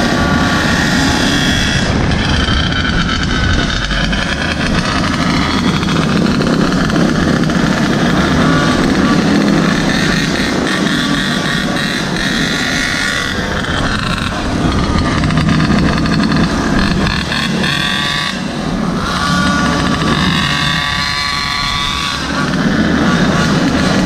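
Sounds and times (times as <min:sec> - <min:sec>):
small engine revving: 0:00.0 - 0:24.0.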